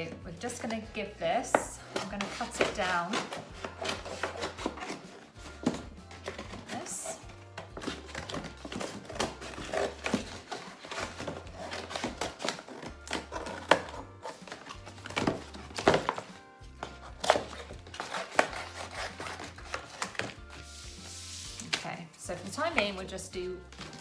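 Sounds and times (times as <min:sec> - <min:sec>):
background music: 0:00.0 - 0:24.0.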